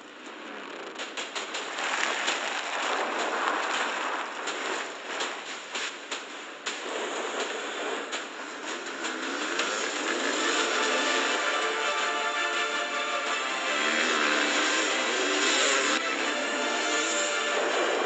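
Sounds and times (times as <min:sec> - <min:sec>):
tyres spraying dirt and gravel: 0:00.0 - 0:18.0.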